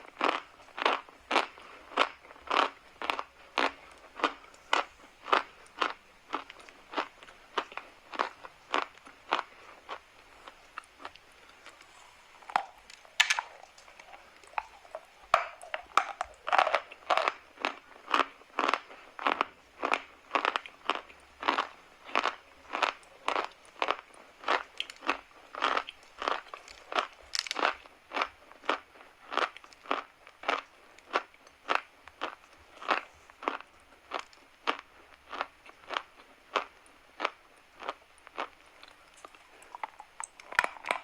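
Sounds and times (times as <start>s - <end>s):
chalk crunching while chewed: 0.1s - 41.0s.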